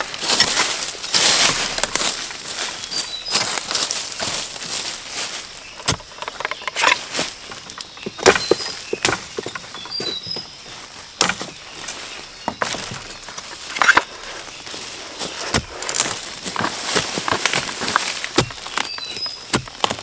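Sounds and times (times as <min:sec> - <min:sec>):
dry leaves and twigs crackling: 0:00.0 - 0:20.0.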